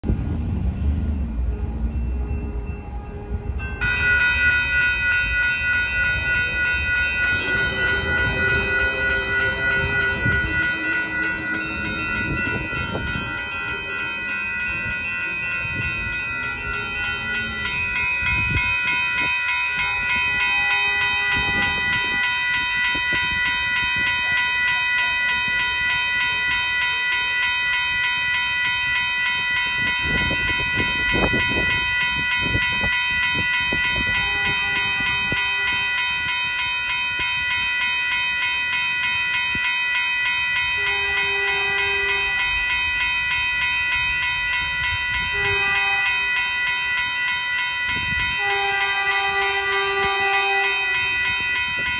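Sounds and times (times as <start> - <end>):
crossing warning bell ringing: 0.0 - 51.9.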